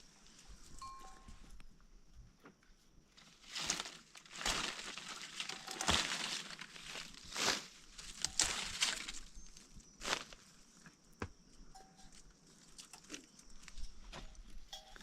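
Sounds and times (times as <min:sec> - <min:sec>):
rustling and crinkling: 0:02.2 - 0:15.0.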